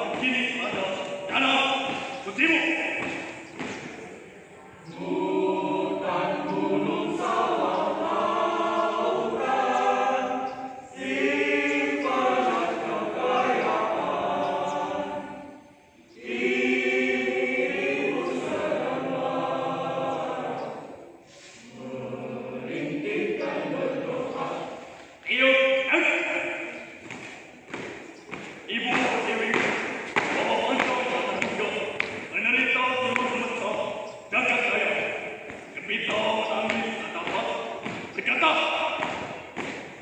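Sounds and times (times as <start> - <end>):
group singing a chant in unison: 0.0 - 40.0.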